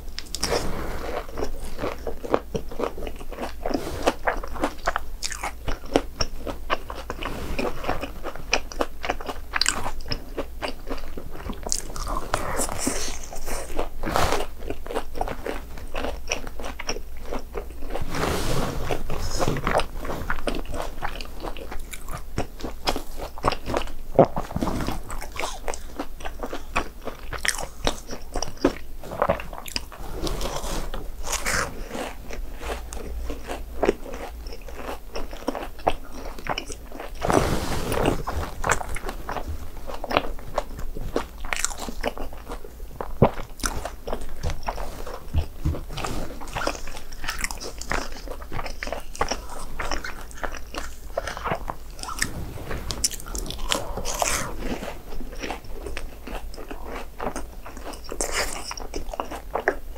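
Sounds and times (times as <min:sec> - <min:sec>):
crunchy snack chewing: 0:00.2 - 0:59.9.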